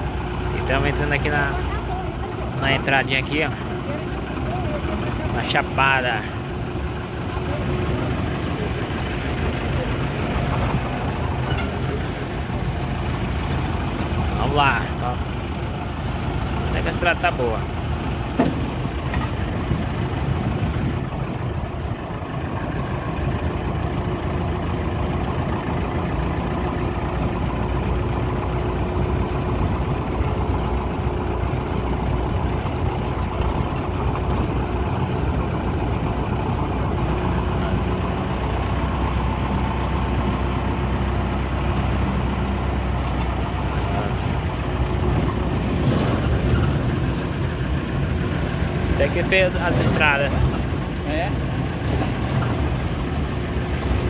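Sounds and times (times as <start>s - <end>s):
car engine hum: 0.0s - 54.0s
road noise: 0.0s - 54.0s.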